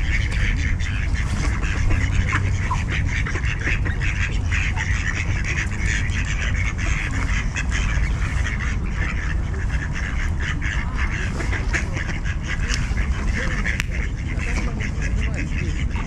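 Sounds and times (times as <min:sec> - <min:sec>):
ducks quacking: 0:00.0 - 0:16.0
steady low rumble: 0:00.0 - 0:16.0.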